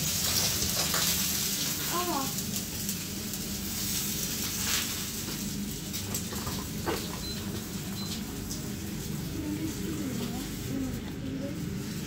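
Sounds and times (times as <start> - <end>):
mince sizzling in a pan: 0.0 - 12.0.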